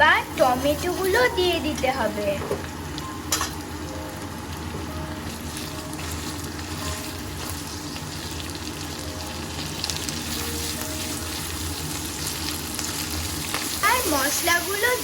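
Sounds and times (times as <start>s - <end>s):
food sizzling and crackling in oil: 0.0s - 15.0s.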